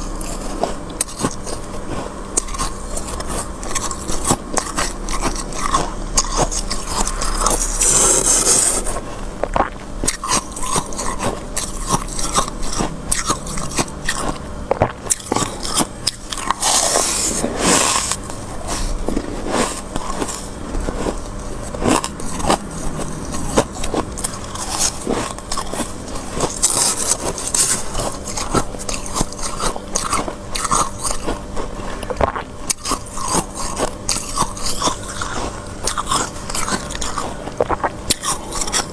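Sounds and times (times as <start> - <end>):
spoon scraping freezer frost: 0.0 - 14.4, 15.0 - 38.9.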